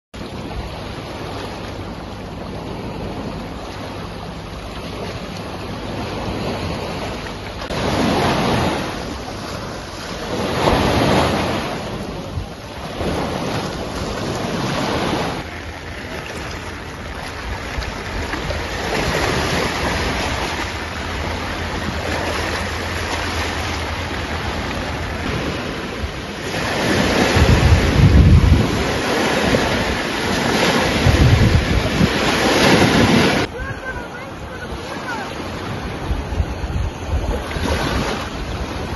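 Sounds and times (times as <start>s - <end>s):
surf breaking on beach: 0.2s - 38.9s
wind buffeting microphone: 0.2s - 38.9s.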